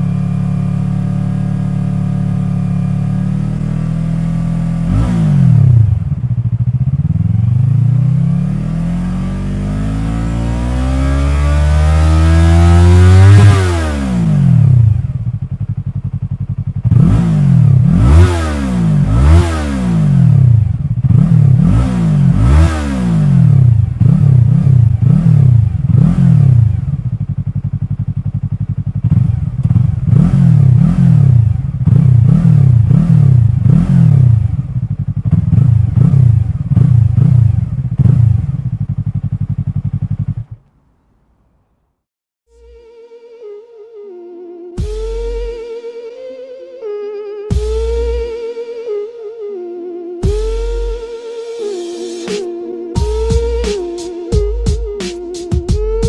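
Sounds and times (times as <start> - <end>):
motorcycle engine revving: 0.0 - 41.0, 42.5 - 49.1, 50.2 - 56.0.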